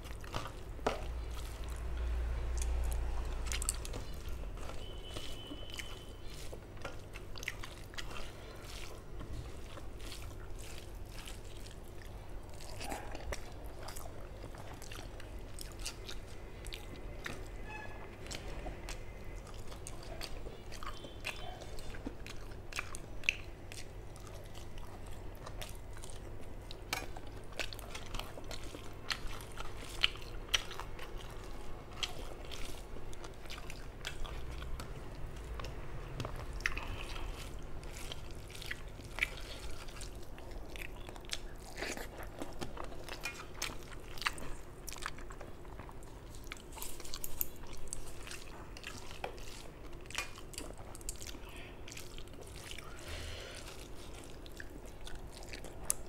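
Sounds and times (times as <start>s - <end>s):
chewing and biting: 0.0s - 56.0s.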